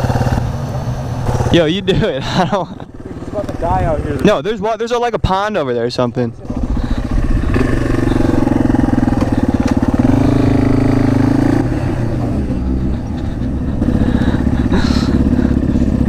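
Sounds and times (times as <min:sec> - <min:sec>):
dirt bike engine revving: 0:00.0 - 0:04.6, 0:06.4 - 0:16.0.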